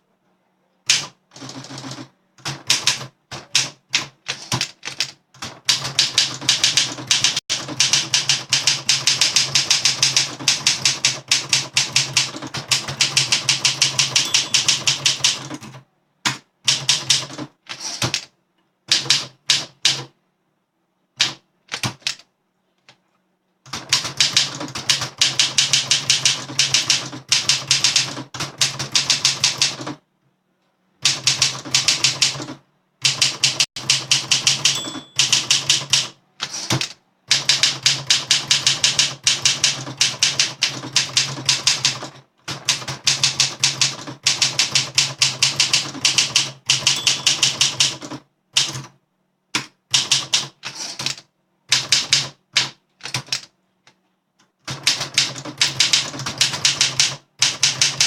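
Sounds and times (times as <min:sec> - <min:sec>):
typewriter keystrokes: 0:00.9 - 0:18.3, 0:21.2 - 0:22.3, 0:23.7 - 0:30.0, 0:31.0 - 0:53.5, 0:54.6 - 0:58.0.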